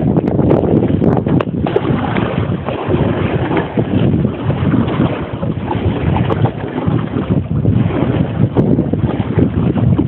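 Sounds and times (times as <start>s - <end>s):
water splashing around kayak: 0.0s - 10.0s
wind buffeting microphone: 0.0s - 10.0s.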